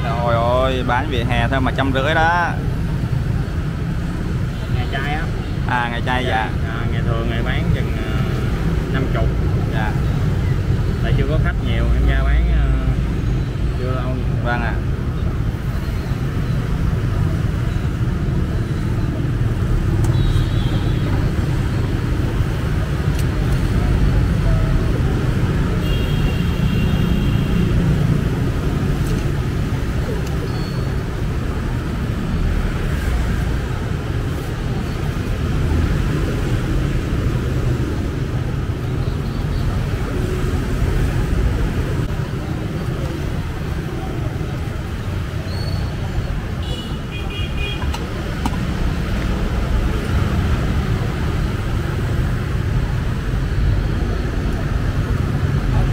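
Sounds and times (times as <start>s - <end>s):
motorbikes passing: 0.0s - 55.9s
street traffic rumble: 0.0s - 55.9s.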